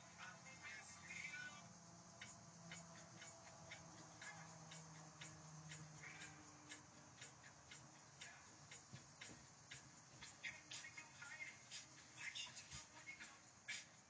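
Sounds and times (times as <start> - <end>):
faint regular ticking: 0.0 - 14.0.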